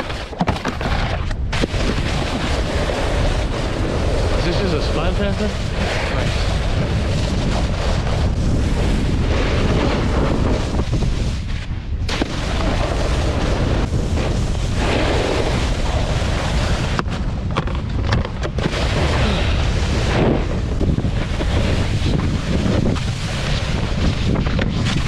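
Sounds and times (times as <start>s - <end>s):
snowboard sliding over snow: 0.0s - 25.0s
wind buffeting microphone: 0.7s - 25.0s.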